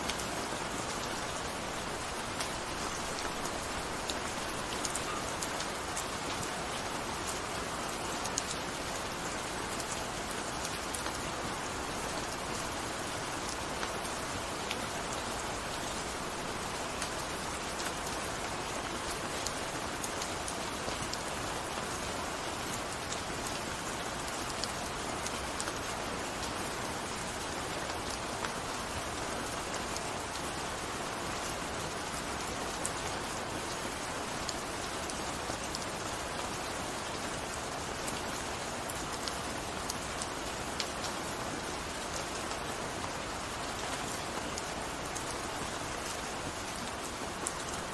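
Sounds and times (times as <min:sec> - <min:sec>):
gentle rain falling: 0:00.0 - 0:47.9.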